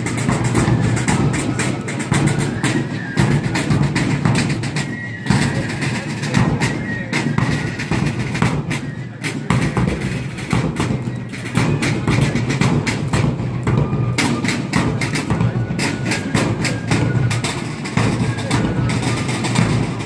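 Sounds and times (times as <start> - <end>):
side drums beating: 0.0 - 20.0.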